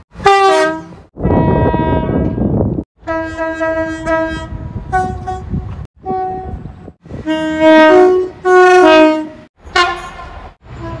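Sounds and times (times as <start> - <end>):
train horn blasts: 0.1 - 11.0
two-tone train horn: 0.2 - 11.0.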